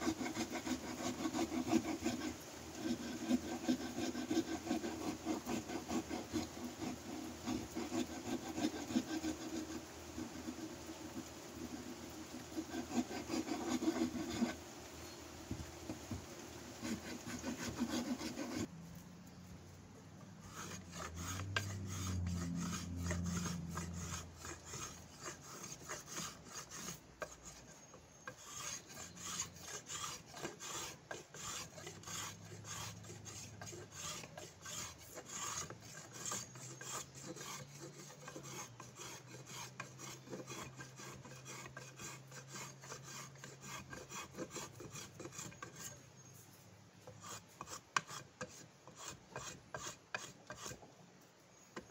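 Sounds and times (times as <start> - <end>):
drawknife scraping wood: 0.0 - 14.6, 16.8 - 18.7, 20.4 - 46.0, 47.0 - 50.9.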